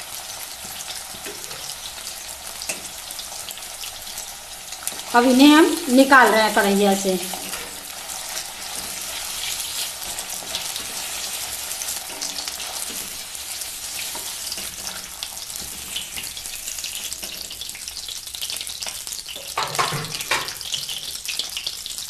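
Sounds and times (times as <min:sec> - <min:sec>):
hot oil sizzling and bubbling: 0:00.0 - 0:22.0.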